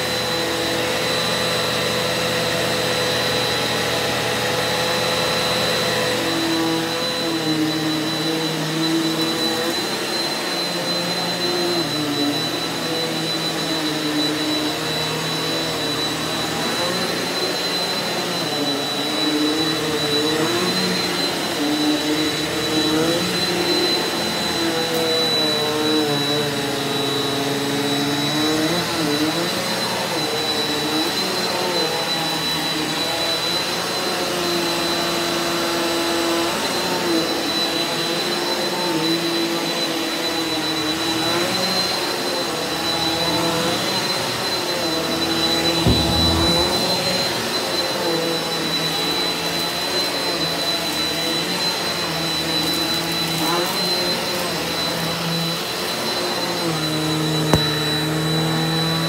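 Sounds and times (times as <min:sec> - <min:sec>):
vacuum cleaner running over carpet: 0:00.0 - 0:59.0.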